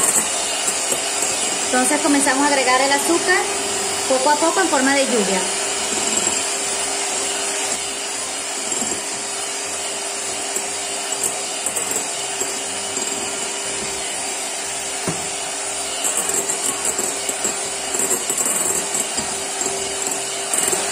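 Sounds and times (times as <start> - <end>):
electric hand mixer whirring: 0.0 - 20.9.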